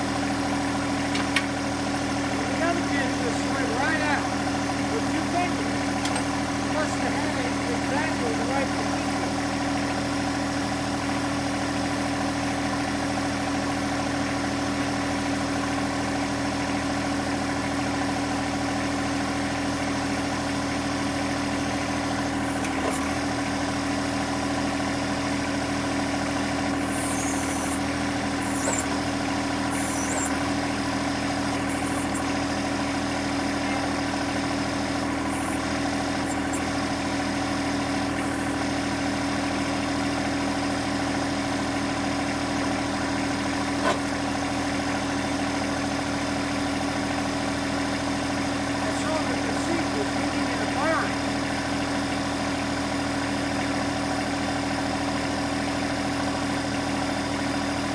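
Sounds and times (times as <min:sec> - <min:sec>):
tractor diesel engine idling: 0:00.0 - 0:57.9.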